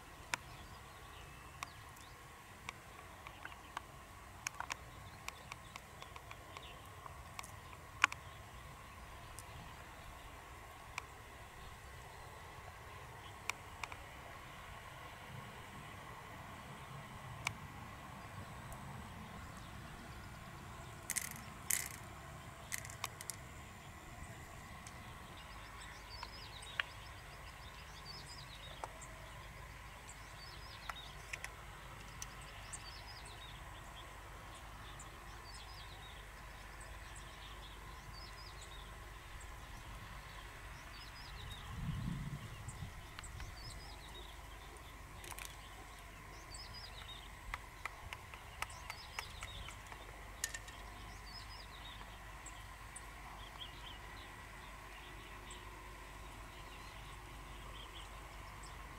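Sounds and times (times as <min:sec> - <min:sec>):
small birds chirping: 0:00.0 - 0:15.2, 0:18.2 - 0:58.9.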